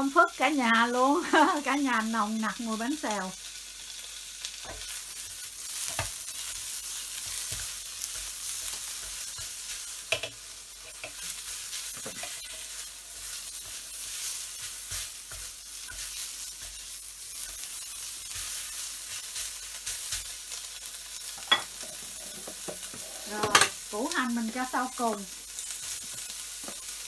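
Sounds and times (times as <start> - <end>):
shrimp sizzling in a wok: 0.0 - 27.0.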